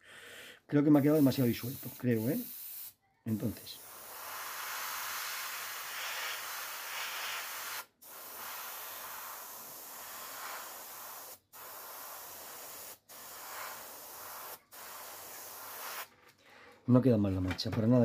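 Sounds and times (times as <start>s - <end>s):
airbrush spraying hiss: 0.9s - 16.1s.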